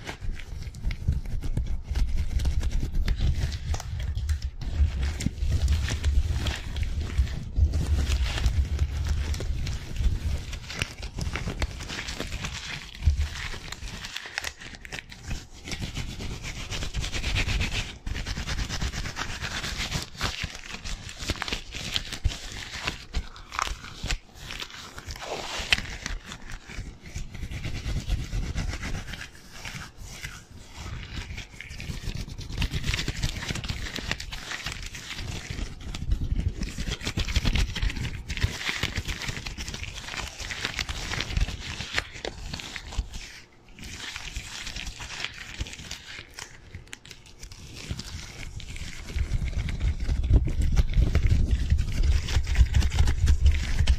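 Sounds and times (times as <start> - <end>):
gloved hands rubbing: 0.0 - 53.9.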